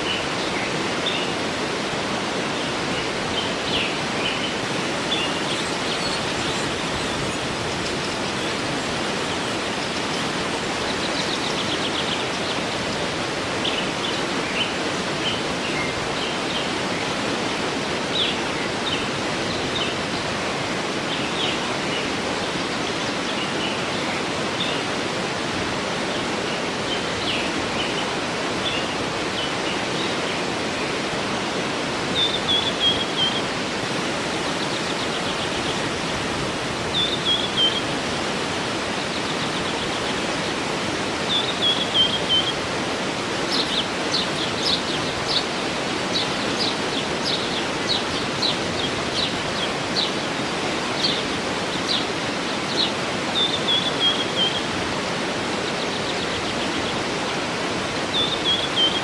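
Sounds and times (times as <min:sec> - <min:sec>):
birds singing: 0:00.0 - 0:59.0
waterfall rushing: 0:00.0 - 0:59.0.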